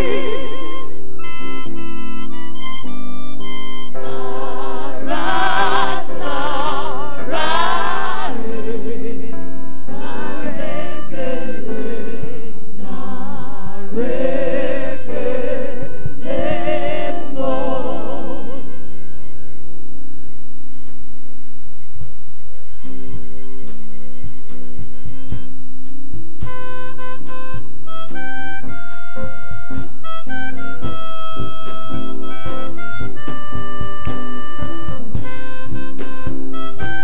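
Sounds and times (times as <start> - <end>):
harmonica with vibrato: 0.0 - 37.0
keyboard chords and bass: 0.0 - 37.0.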